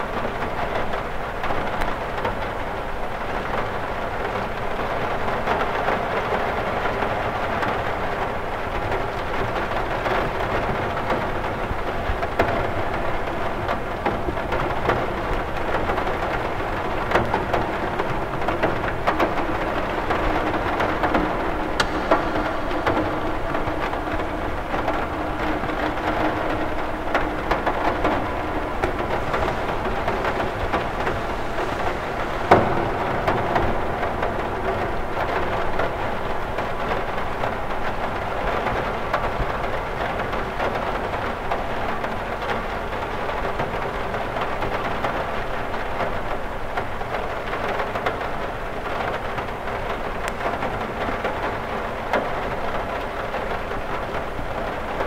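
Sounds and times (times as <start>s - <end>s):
rain ticking on window glass: 0.0s - 55.0s.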